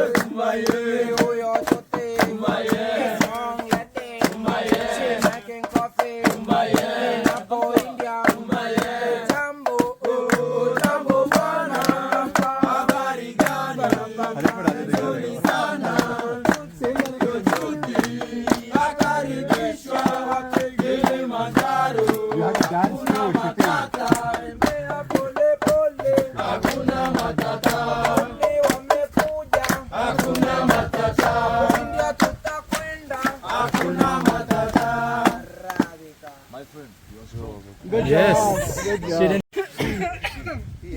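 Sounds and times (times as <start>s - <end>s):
wooden pestle pounding in mortar: 0.0s - 35.9s
voices singing call-and-response: 0.0s - 36.6s, 37.8s - 39.4s.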